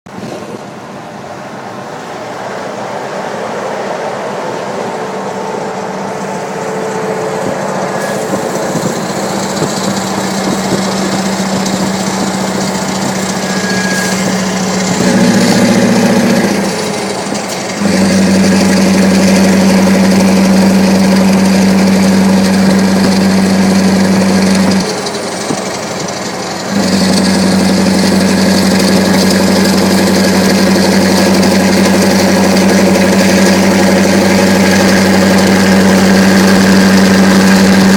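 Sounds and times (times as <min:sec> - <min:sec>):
diesel engine with open exhaust: 0:04.3 - 0:37.9.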